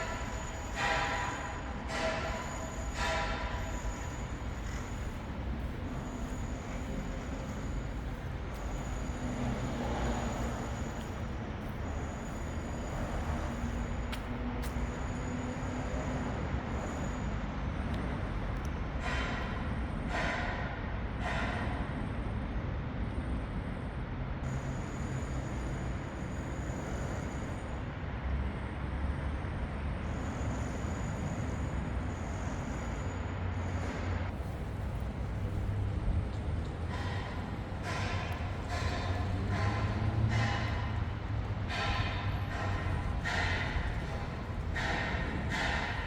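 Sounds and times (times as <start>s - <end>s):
rumble of passing vehicles: 0.0s - 46.0s.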